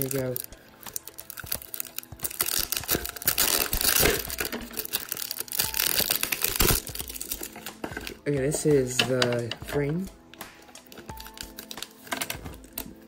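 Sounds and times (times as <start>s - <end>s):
plastic packaging crinkling: 0.0s - 8.2s, 10.8s - 13.0s.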